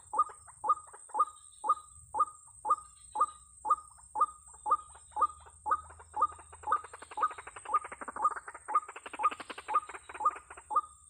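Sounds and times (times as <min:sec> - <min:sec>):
waterhen calling: 0:00.0 - 0:10.9.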